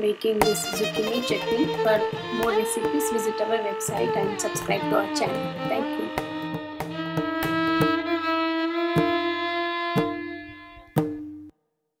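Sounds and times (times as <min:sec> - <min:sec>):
instrumental music with percussive beat: 0:00.4 - 0:11.5.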